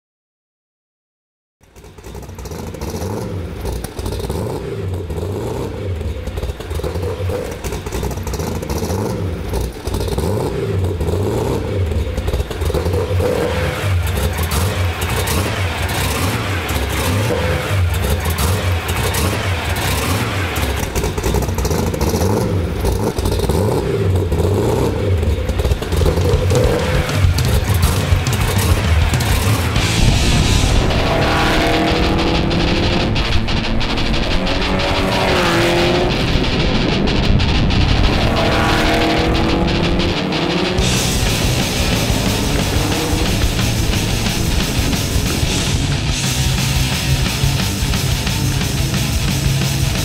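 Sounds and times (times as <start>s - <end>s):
car engine low rumble: 1.6s - 50.0s.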